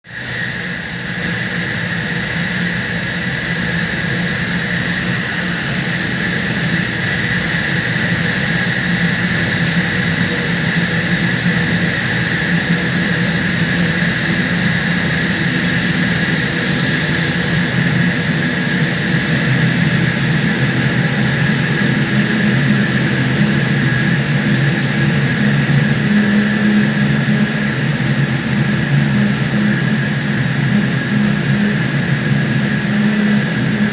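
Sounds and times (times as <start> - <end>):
high whine: 0.0 - 33.9
chiller compressor running: 0.1 - 33.9.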